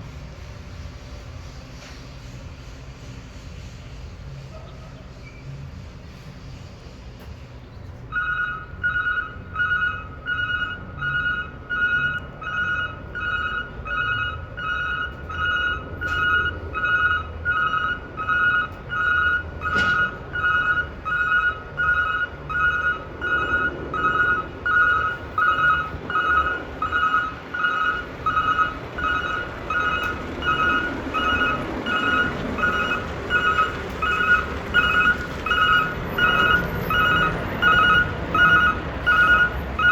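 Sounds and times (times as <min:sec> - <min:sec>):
diesel engine running: 0:00.0 - 0:39.9
truck reversing alarm beeping: 0:07.9 - 0:39.9.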